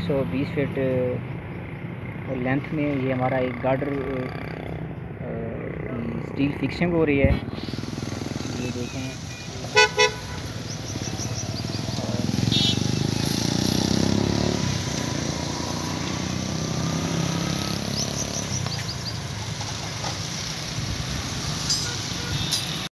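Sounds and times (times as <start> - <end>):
vehicle engine rumbling: 0.0 - 22.9.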